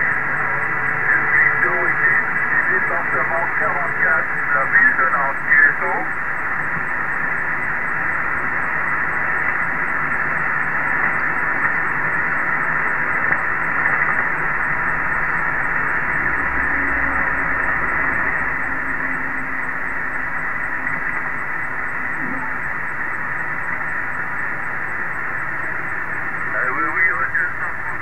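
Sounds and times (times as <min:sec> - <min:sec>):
faint low hum: 0:00.0 - 0:28.0
radio static hiss: 0:00.0 - 0:28.0.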